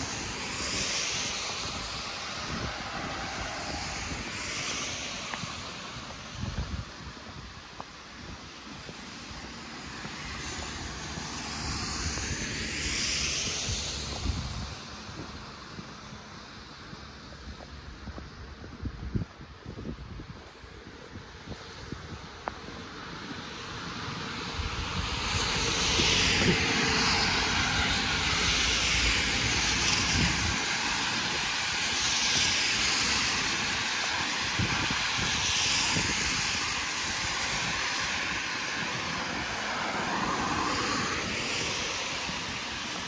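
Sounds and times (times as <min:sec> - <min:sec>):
airplane roaring overhead: 0:00.0 - 0:43.0.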